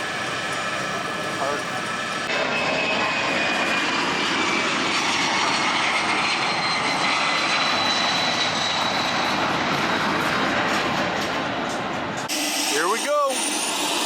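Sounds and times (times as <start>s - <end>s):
jet engine running with whine: 0.0s - 14.0s.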